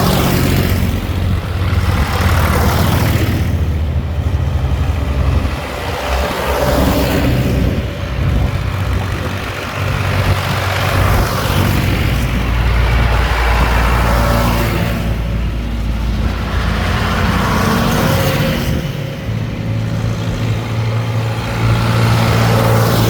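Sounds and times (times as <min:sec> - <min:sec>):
tractors driving past: 0:00.0 - 0:23.0.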